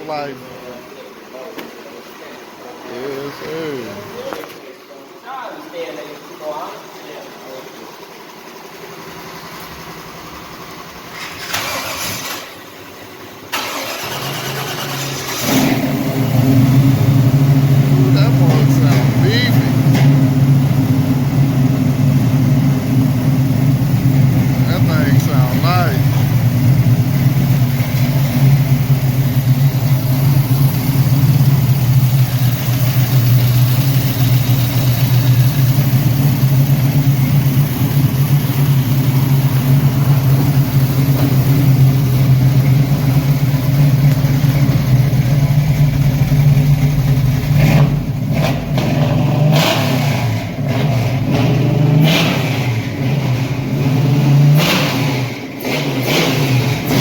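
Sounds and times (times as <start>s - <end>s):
car engine revving: 9.0s - 57.0s.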